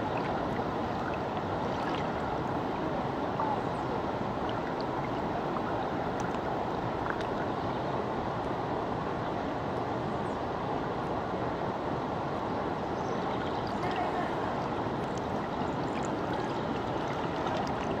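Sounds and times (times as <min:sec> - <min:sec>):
shallow river water flowing: 0:00.0 - 0:18.0.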